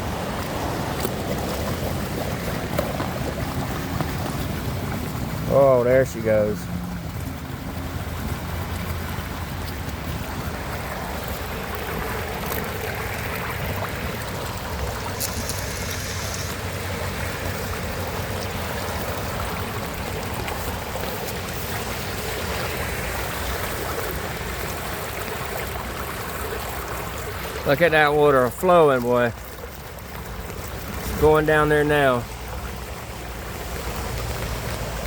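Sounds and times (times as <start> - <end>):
water draining down storm drain: 0.0 - 35.0.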